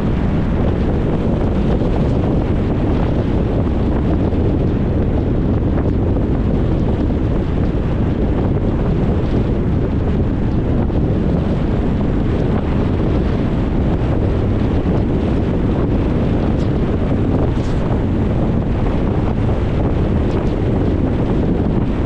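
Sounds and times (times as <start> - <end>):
car tyre and wind noise: 0.0 - 22.0.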